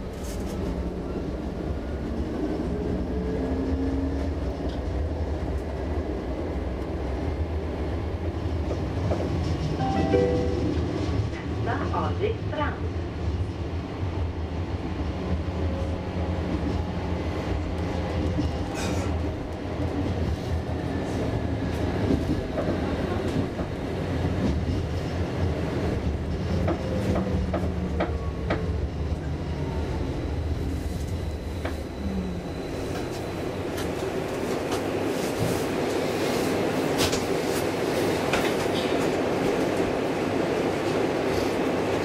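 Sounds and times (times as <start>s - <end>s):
tram wheels rumbling on rail: 0.0s - 42.0s.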